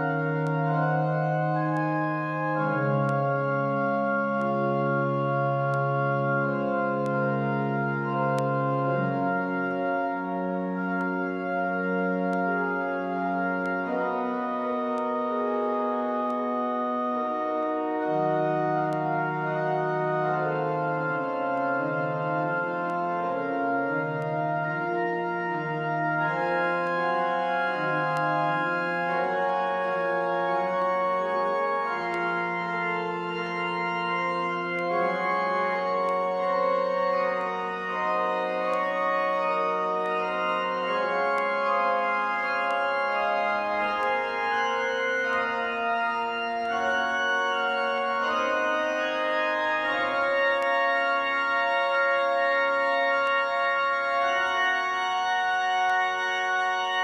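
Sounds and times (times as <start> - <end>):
pipe organ playing held chords: 0.0 - 57.0.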